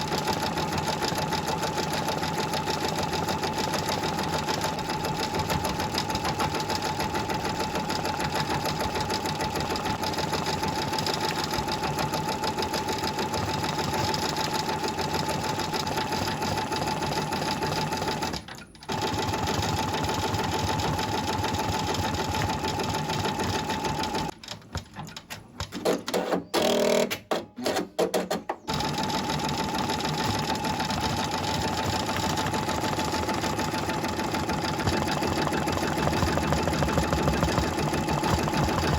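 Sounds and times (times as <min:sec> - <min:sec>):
embroidery machine stitching: 0:00.0 - 0:38.9.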